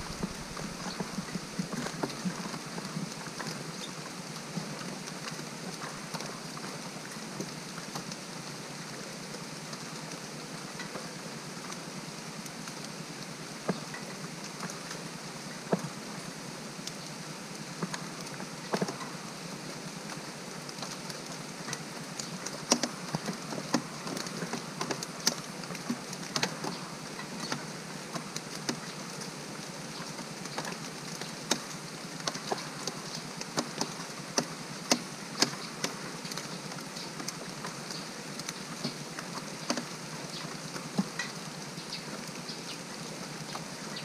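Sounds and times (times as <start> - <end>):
raindrops ticking on hard surface: 0.0 - 44.0
steady rain: 0.0 - 44.0.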